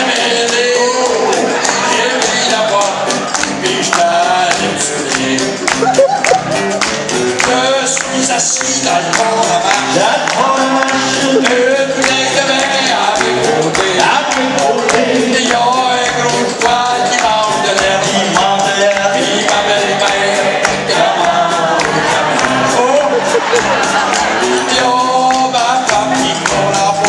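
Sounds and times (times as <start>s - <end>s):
men singing: 0.0s - 6.6s, 7.2s - 27.0s
strummed acoustic guitar: 0.0s - 27.0s.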